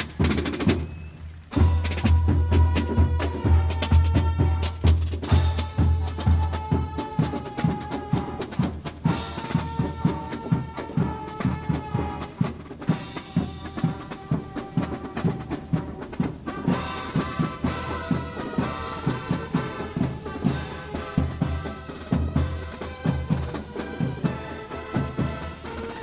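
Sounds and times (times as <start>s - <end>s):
bugles playing held notes: 0.0s - 26.0s
snare and bass drums beating: 0.0s - 26.0s.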